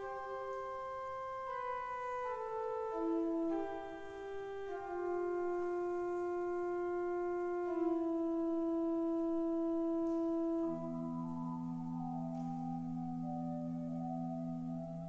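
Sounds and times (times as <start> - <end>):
pipe organ sustained chords: 0.0 - 15.0.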